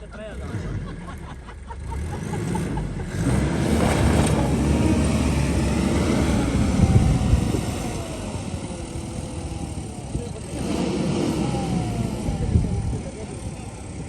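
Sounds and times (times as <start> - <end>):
off-road engine revving hard: 0.0 - 14.0.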